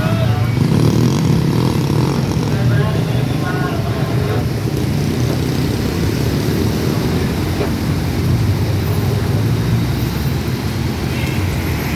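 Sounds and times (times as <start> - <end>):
locomotive engine rumbling: 0.0 - 11.9.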